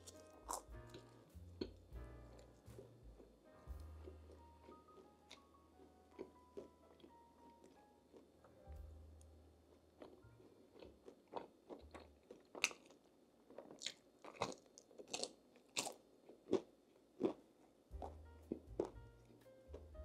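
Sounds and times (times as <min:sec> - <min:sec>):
crunchy food chewing: 0:00.0 - 0:08.4, 0:09.7 - 0:20.0.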